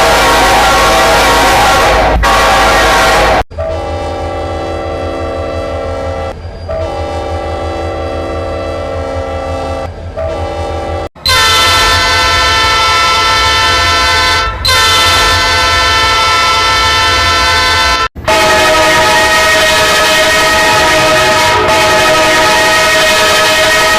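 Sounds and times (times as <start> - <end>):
train air horn blasts: 0.0 - 23.9.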